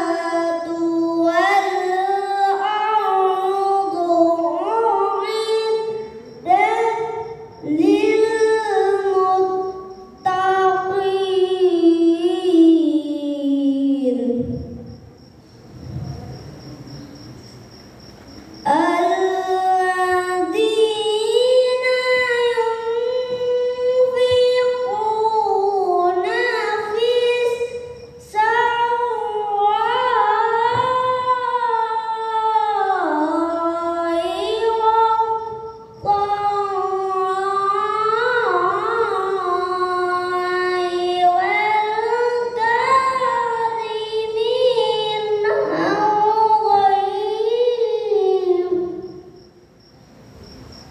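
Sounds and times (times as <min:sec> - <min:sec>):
boy reciting melodically: 0:00.0 - 0:17.0, 0:18.6 - 0:49.6.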